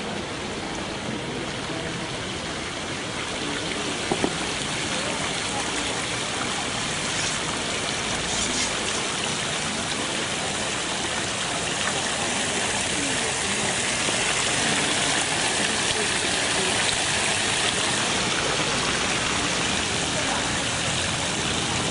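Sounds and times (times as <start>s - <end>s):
fountain water splashing: 0.0s - 21.9s.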